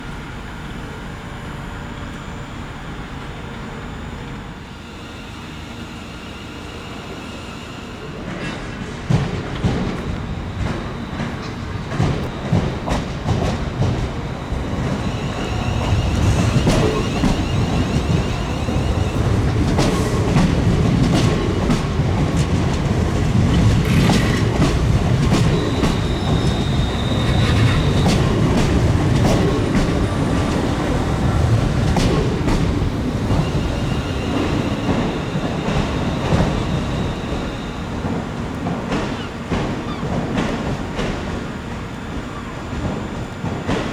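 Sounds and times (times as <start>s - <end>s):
train rumble: 0.0s - 43.9s
train wheels clicking over rail joints: 5.7s - 43.9s.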